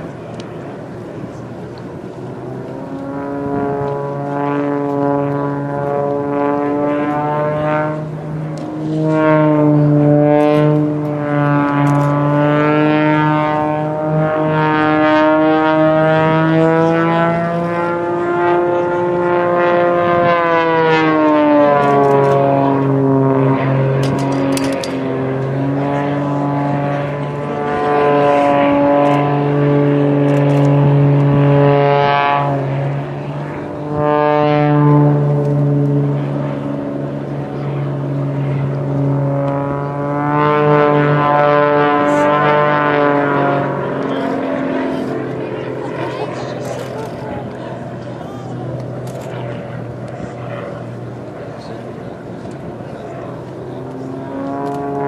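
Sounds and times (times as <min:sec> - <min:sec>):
propeller aircraft engine droning: 0:00.0 - 0:55.0.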